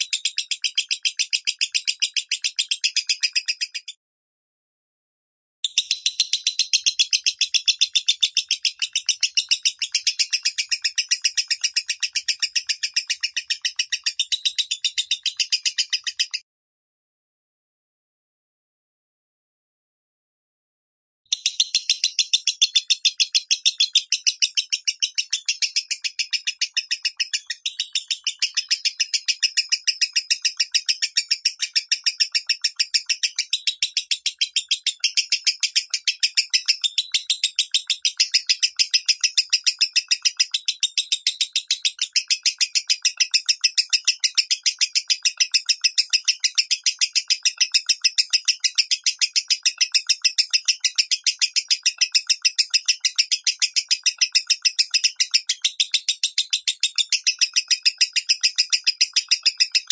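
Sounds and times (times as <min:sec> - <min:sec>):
lovebird shrill chirps: 0:05.6 - 0:16.4, 0:21.3 - 0:59.9.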